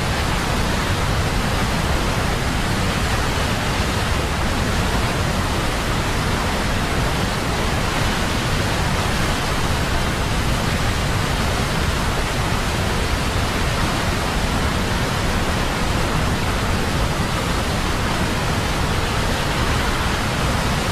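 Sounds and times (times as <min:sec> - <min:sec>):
floodwater rushing: 0:00.0 - 0:20.9.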